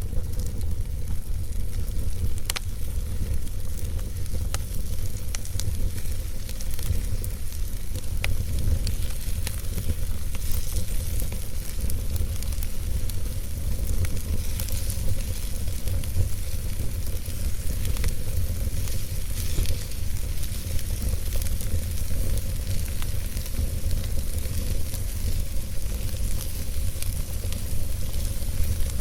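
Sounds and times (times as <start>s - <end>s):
fire rumbling: 0.0s - 29.0s
logs crackling and popping: 0.0s - 29.0s.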